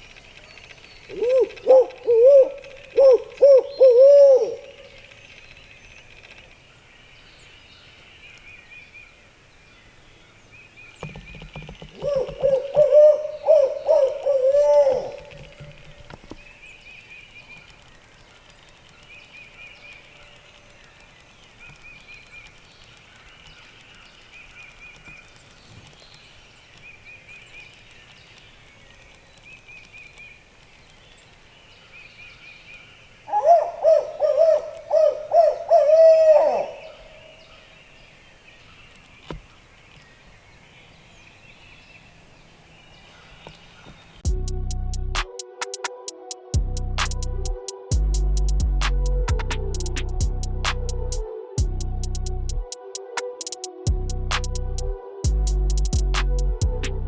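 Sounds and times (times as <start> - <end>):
rapid pulsing bird call: 0.0 - 6.9, 11.0 - 29.2, 31.8 - 39.7, 42.2 - 57.0.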